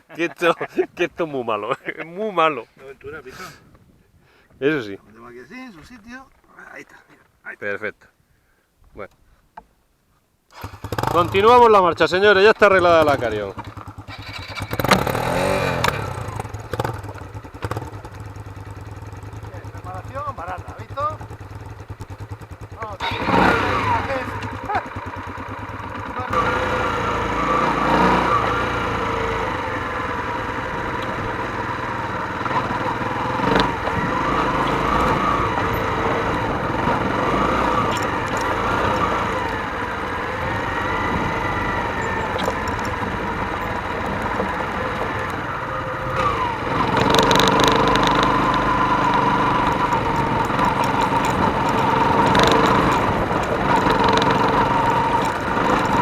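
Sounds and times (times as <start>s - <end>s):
motorcycle engine accelerating: 10.5s - 56.0s.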